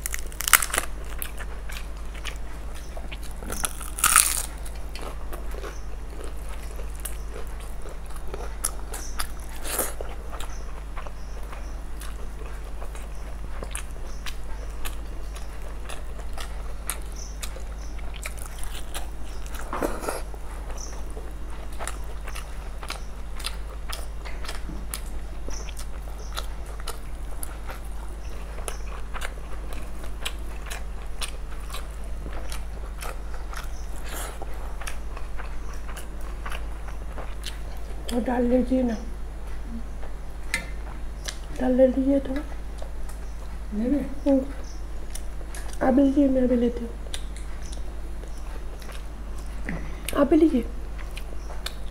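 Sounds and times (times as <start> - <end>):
chewing and mouth smacking: 0.0 - 38.2, 44.5 - 45.8, 47.0 - 50.2, 50.9 - 51.9.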